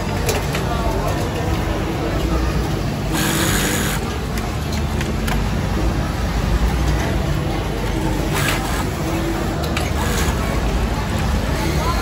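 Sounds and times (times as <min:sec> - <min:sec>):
factory machine hum: 0:00.0 - 0:12.0.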